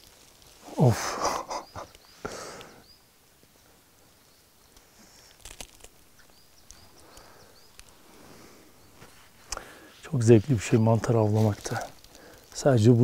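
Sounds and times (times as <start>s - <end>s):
leaf litter rustling: 0.0s - 2.7s, 4.7s - 13.0s
crisp crunches and clicks: 0.0s - 2.8s, 4.6s - 13.0s.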